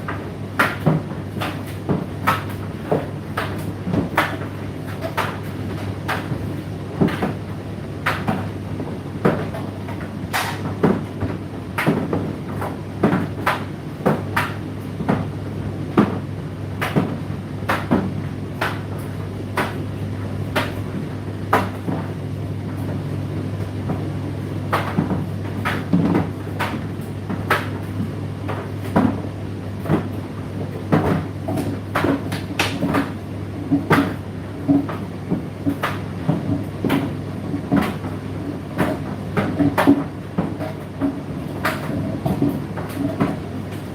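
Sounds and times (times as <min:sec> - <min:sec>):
tumble dryer motor hum: 0:00.0 - 0:43.9.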